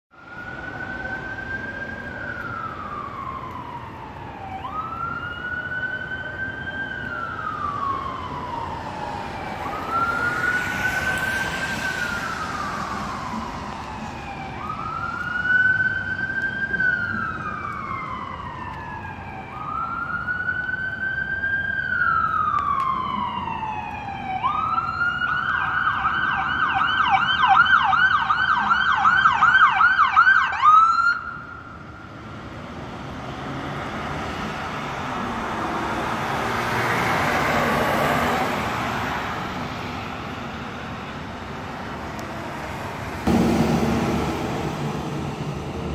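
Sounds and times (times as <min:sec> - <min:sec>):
emergency siren wailing and yelping: 0:00.1 - 0:43.3.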